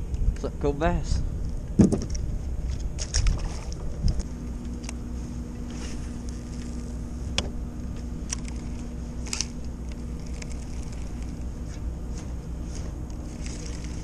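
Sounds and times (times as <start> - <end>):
low rumble with faint hum: 0.0 - 14.0.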